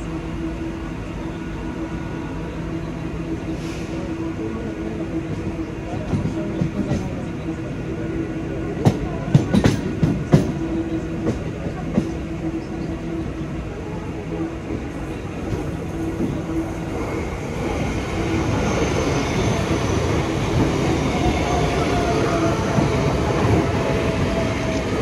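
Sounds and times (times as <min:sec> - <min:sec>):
train hum and rolling noise: 0:00.0 - 0:25.0.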